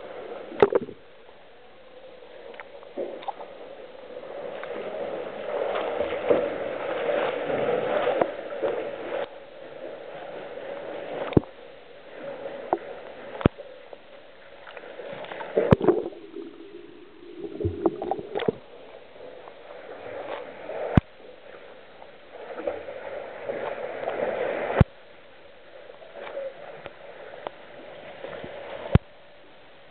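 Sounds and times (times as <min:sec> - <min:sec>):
water splashing from swimming: 0:00.0 - 0:01.1, 0:02.1 - 0:29.2.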